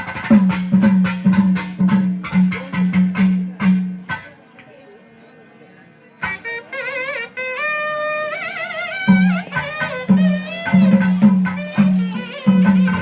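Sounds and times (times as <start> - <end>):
reed wind instrument melody: 0.0 - 4.3, 6.2 - 13.0
drum beating: 0.0 - 4.5, 6.2 - 13.0.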